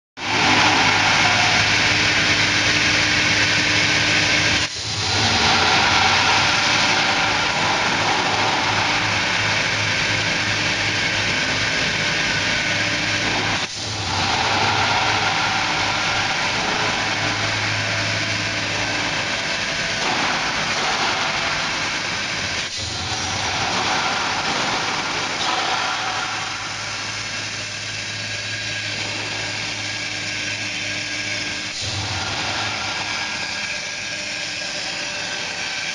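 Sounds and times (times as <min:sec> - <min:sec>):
roll forming machine noise: 0:00.2 - 0:35.9.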